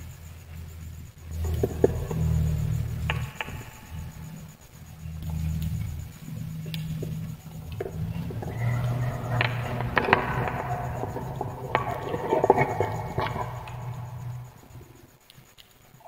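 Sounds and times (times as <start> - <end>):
low steady rumble: 0.0 - 15.3
wood fire crackling: 0.0 - 16.0.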